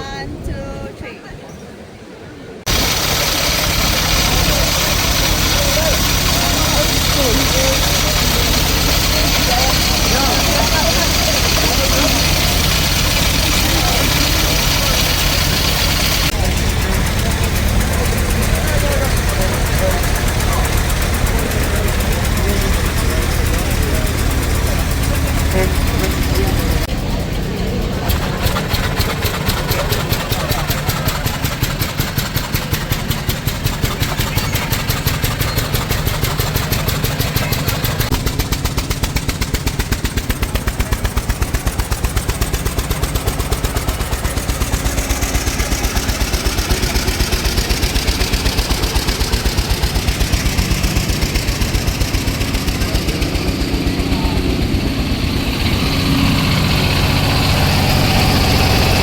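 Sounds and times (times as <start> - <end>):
car engine idling: 2.6 - 59.0
deeper engine sound: 2.6 - 59.0.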